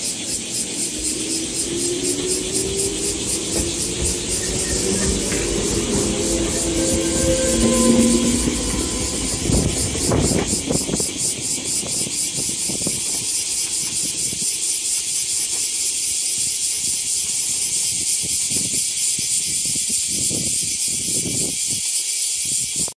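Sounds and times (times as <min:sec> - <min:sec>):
electric train running: 0:00.0 - 0:21.5
insects droning: 0:00.0 - 0:22.9.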